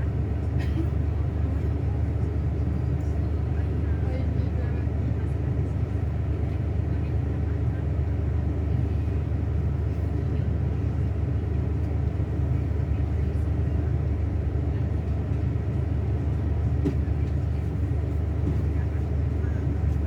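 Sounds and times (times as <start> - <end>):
bus diesel engine droning: 0.0 - 20.0.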